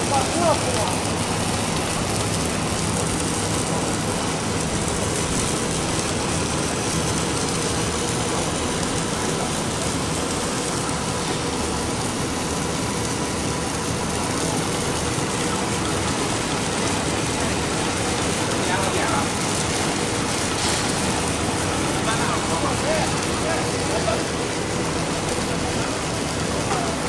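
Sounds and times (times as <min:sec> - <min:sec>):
factory machinery din: 0:00.0 - 0:27.0.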